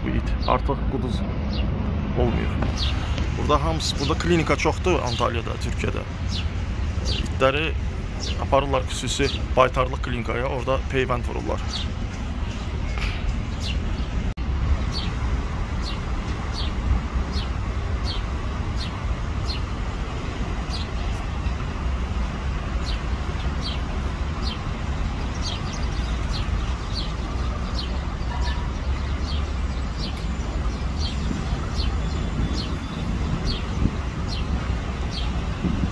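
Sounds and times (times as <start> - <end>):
low traffic rumble: 0.0 - 35.9
bird chirping: 2.6 - 15.2, 15.8 - 19.8, 20.6 - 21.8, 22.8 - 35.6.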